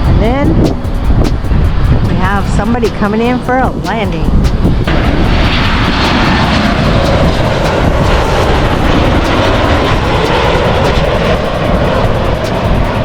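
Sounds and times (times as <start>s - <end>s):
airplane engines roaring overhead: 0.0s - 13.0s.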